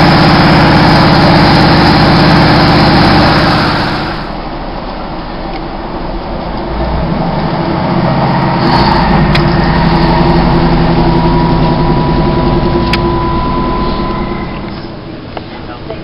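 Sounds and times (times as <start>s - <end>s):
high whine: 0.0s - 15.6s
train diesel engine running: 0.0s - 16.0s.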